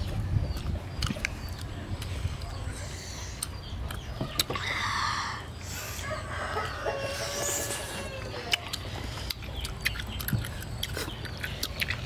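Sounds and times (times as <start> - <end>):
soft chewing: 0.0 - 4.8, 5.8 - 12.0.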